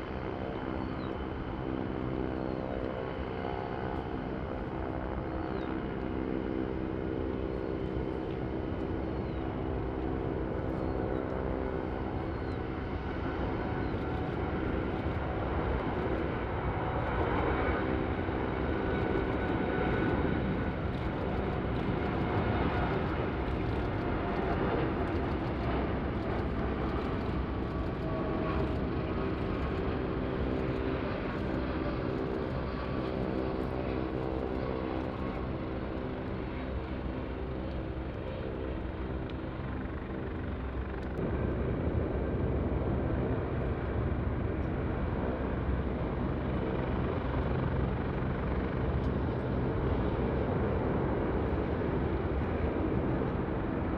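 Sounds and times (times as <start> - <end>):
jet engines droning: 0.0 - 53.9.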